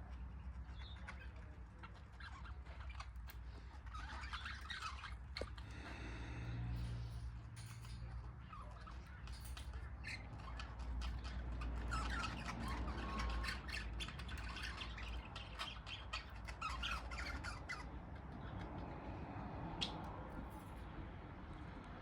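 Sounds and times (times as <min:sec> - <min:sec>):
budgerigars chattering and squawking: 0:00.2 - 0:06.4, 0:08.4 - 0:20.2.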